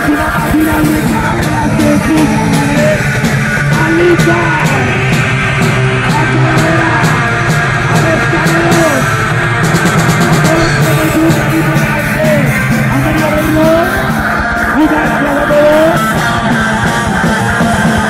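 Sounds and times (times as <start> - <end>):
bass guitar: 0.0 - 18.0
drum kit: 0.0 - 18.0
electric guitars: 0.0 - 18.0
cymbal crashes: 0.5 - 18.0.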